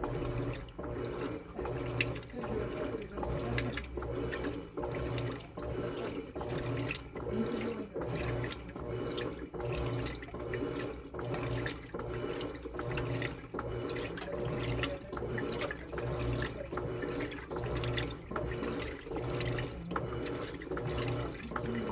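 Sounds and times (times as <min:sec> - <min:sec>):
washing machine water sloshing: 0:00.0 - 0:21.9.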